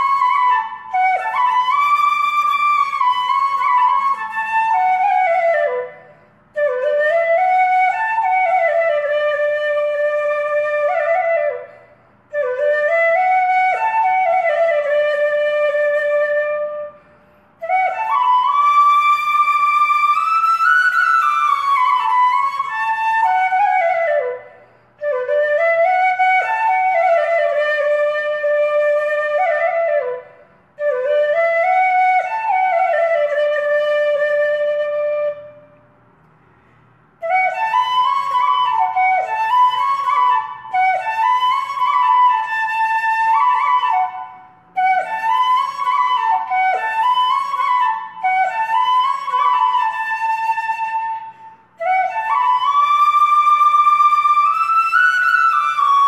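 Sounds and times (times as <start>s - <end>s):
solo flute melody: 0.0s - 35.8s, 37.2s - 56.0s.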